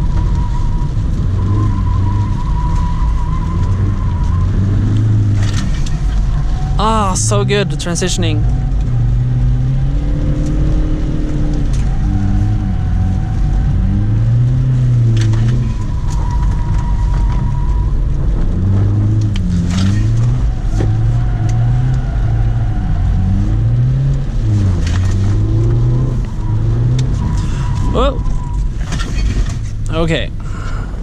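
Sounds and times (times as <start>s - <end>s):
diesel car engine revving: 0.0s - 31.0s.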